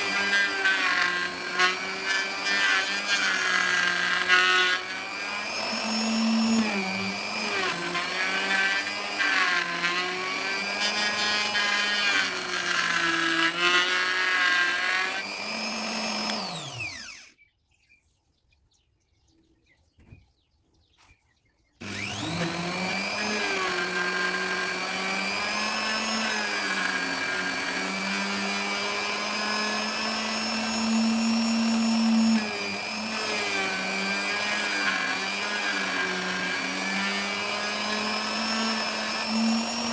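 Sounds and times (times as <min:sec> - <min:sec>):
wood router motor: 0:00.0 - 0:17.4, 0:21.8 - 0:39.9.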